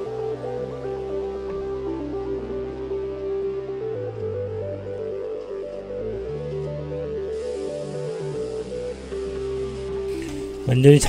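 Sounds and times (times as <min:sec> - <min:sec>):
synthesizer melody: 0:00.0 - 0:11.0.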